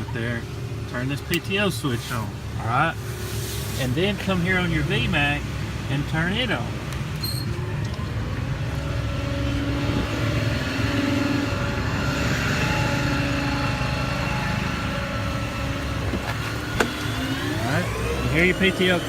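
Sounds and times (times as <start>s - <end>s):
hydraulic pump whine: 0.0s - 19.0s
truck engine running: 0.0s - 19.0s.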